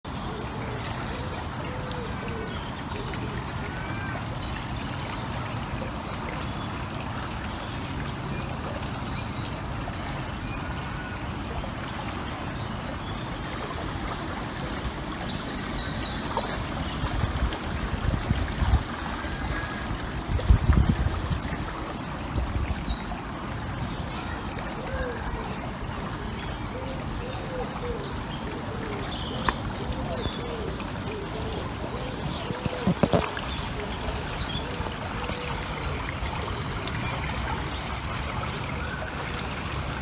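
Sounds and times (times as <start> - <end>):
stream water flowing: 0.0 - 40.0.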